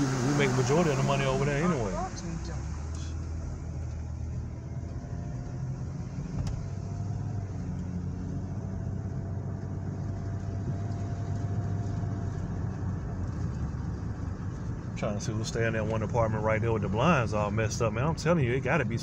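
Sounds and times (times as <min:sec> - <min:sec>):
car engine hum: 0:00.0 - 0:19.0
tyre noise on wet road: 0:00.0 - 0:19.0.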